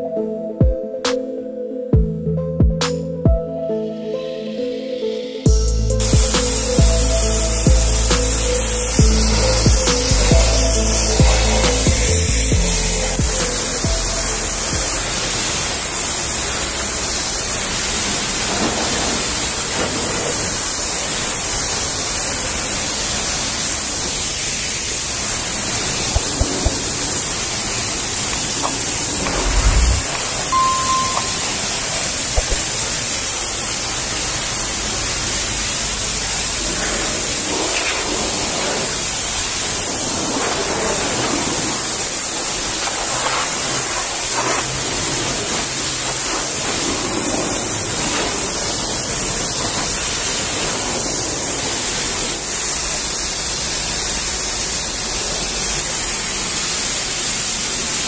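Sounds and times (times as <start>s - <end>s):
pressure washer jet hissing: 5.5s - 58.0s.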